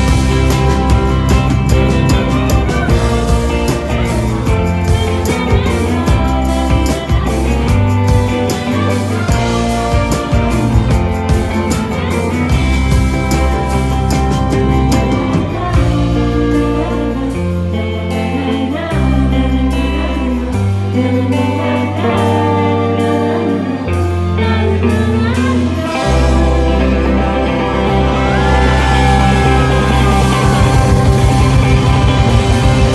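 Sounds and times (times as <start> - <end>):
live rock band playing: 0.0 - 32.9
person singing: 0.0 - 32.9.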